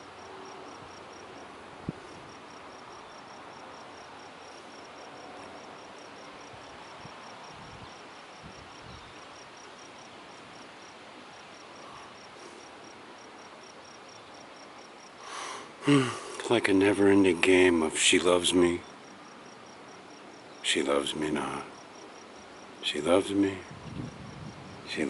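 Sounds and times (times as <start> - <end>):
insect chirping: 0.0 - 25.0
outdoor hiss: 0.0 - 25.0.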